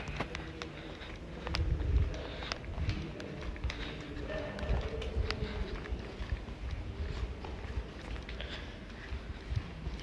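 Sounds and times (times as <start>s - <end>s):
footsteps: 0.0s - 10.0s.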